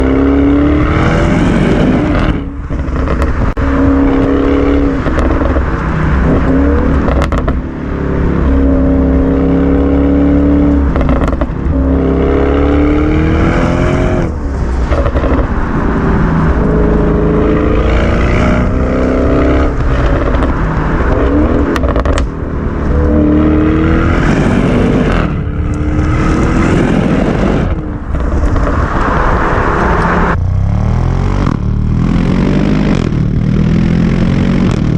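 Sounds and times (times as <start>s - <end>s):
car engine revving loudly: 0.0s - 34.9s.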